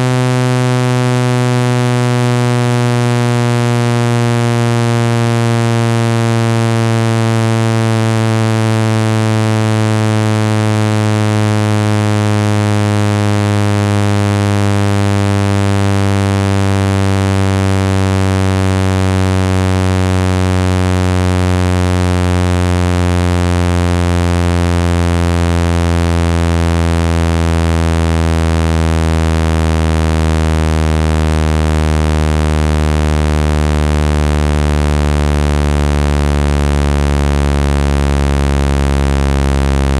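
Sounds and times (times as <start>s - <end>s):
low buzzing tone falling in pitch: 0.0s - 39.9s.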